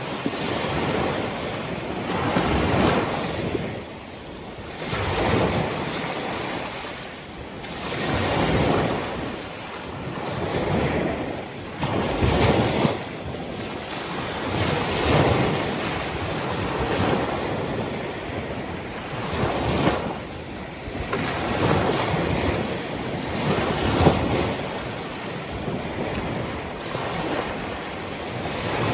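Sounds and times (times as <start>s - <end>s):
ocean waves breaking: 0.0s - 28.9s.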